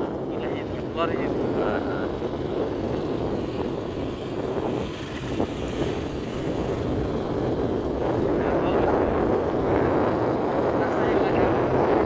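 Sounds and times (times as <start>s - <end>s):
vehicle engine and tyre noise: 0.0s - 12.0s
wind on microphone: 0.0s - 12.0s.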